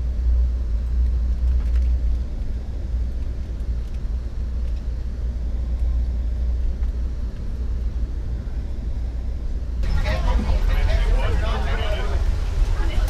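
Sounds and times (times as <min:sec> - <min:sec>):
train rumble inside passenger car: 0:00.0 - 0:13.0.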